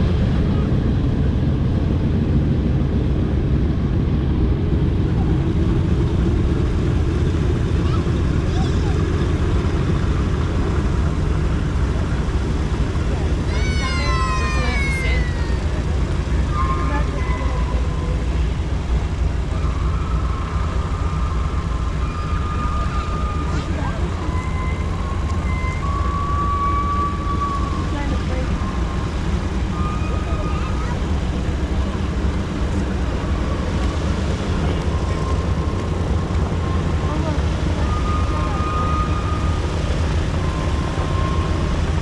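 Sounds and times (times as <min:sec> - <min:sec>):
aircraft radial engines droning: 0:00.0 - 0:42.0.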